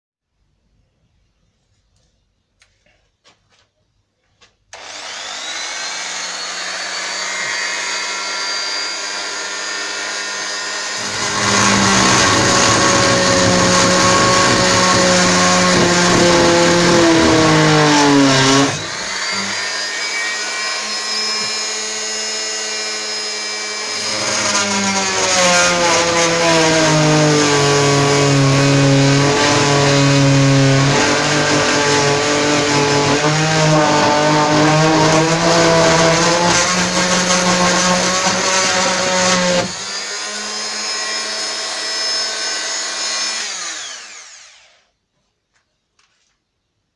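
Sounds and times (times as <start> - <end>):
rotary tool cutting screws: 4.7 - 44.9.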